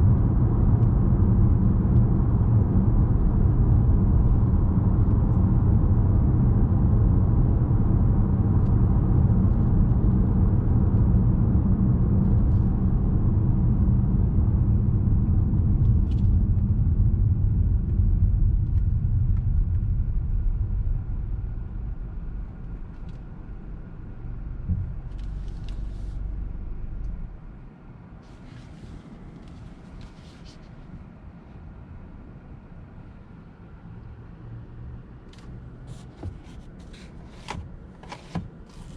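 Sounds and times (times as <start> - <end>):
engine and road noise rumble: 0.0 - 38.9.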